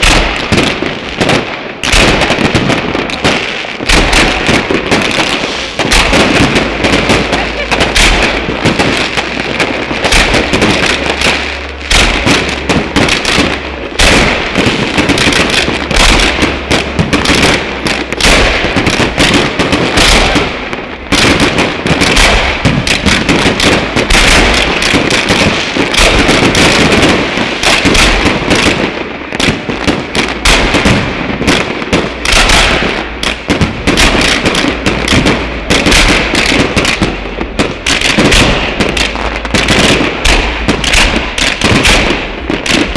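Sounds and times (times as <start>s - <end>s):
fireworks bangs and pops: 0.0s - 42.9s.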